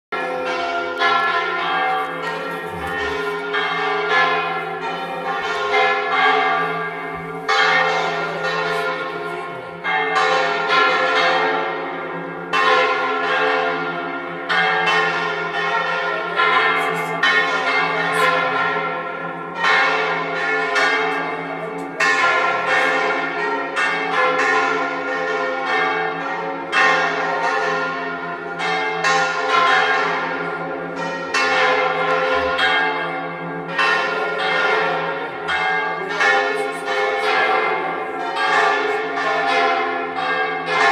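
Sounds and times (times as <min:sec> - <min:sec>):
church bells ringing: 0:00.1 - 0:40.9.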